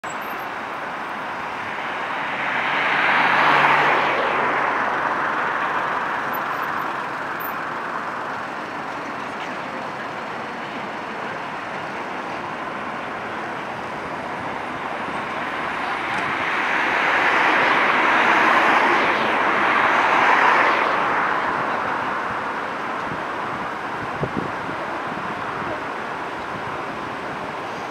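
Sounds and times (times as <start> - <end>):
street traffic noise: 0.0 - 27.9.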